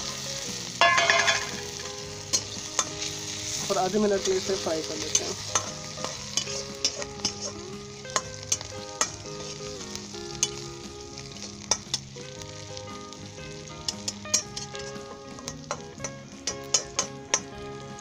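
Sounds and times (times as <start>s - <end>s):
food sizzling in hot oil: 0.0s - 18.0s
metal spatula scraping pan: 0.8s - 12.1s, 13.8s - 17.5s.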